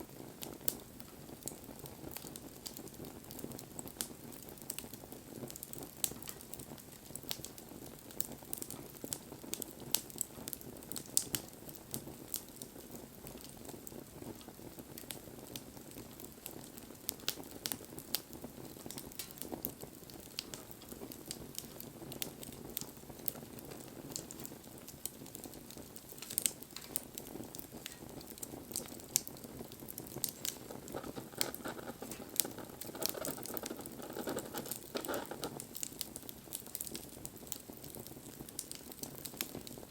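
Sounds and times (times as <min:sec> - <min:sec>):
hiss of burning: 0:00.0 - 0:39.9
wood fire crackling and popping: 0:00.0 - 0:39.9.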